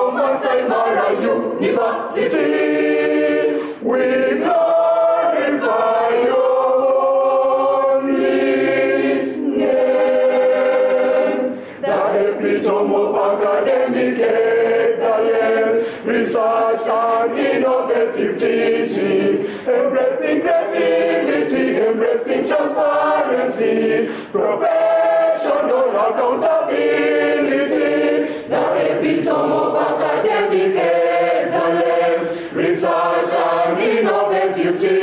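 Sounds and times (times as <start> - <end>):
choir singing unaccompanied: 0.0 - 35.0.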